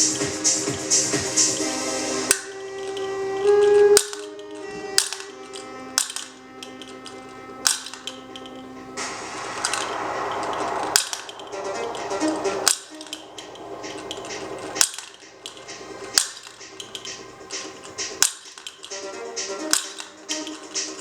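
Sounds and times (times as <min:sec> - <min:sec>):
background music: 0:00.0 - 0:21.0
plastic toy clicks and snaps: 0:01.4 - 0:08.6, 0:09.4 - 0:21.0.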